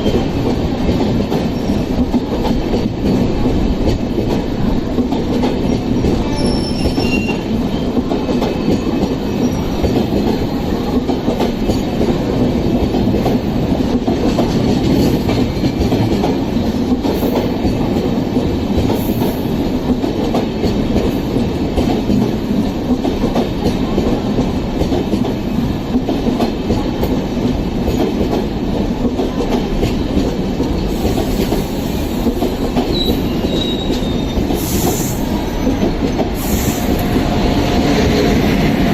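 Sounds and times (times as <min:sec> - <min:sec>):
train coaches rumbling past: 0:00.0 - 0:38.9.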